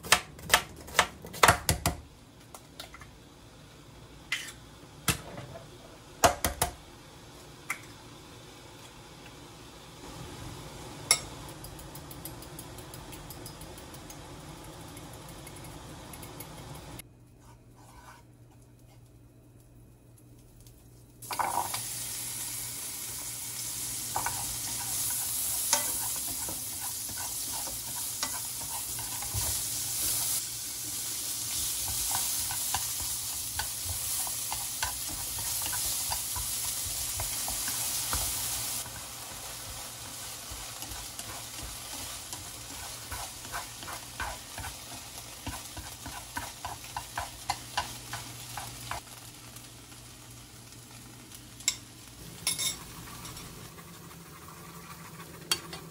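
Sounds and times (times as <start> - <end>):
onion sizzling in a frying pan: 3.2 - 17.0, 19.6 - 55.9.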